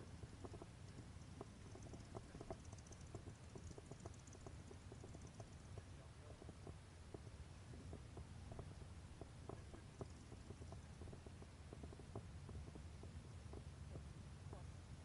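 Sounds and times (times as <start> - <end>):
soft ticks and clicks: 0.0 - 15.0.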